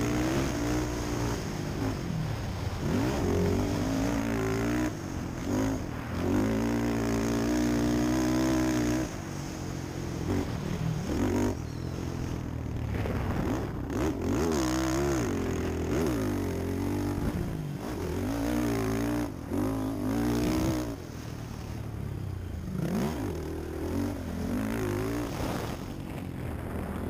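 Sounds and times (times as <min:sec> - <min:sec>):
quad engine revving: 0:00.0 - 0:09.2, 0:10.1 - 0:12.2, 0:13.0 - 0:21.0, 0:22.7 - 0:25.6.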